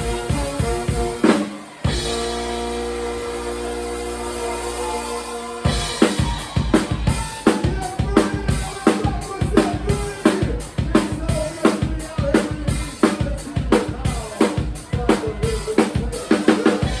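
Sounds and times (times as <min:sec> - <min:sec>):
drum kit driving beat: 0:00.0 - 0:17.0
live band playing: 0:00.0 - 0:17.0.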